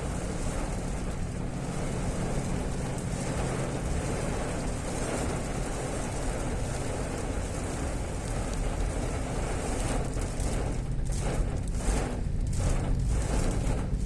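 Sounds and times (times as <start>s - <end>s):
heavy rain hissing: 0.0s - 14.0s
low rumble: 0.0s - 14.0s.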